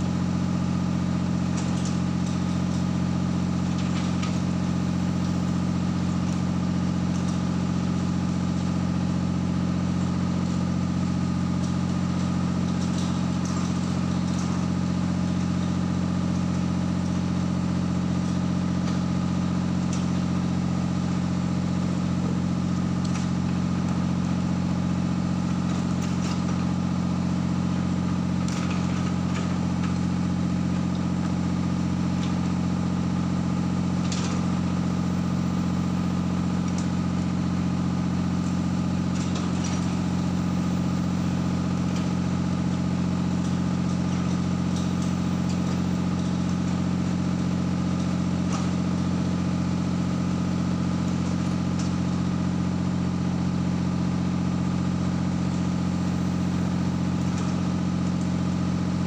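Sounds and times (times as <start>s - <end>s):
machine engine idling: 0.0s - 59.0s.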